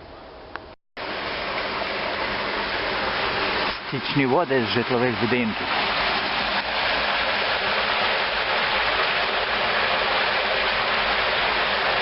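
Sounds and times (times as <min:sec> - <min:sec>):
flowing water rushing: 0:01.0 - 0:12.0.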